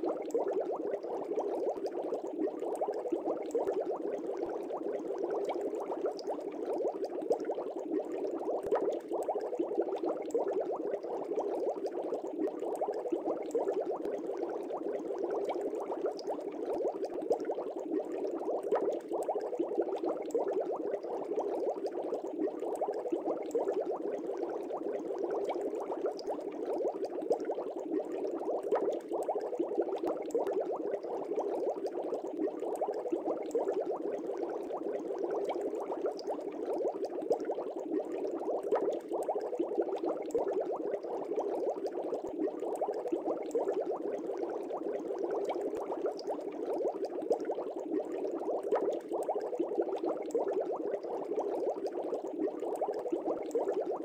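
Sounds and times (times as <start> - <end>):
bubbling water: 0.0 - 54.0.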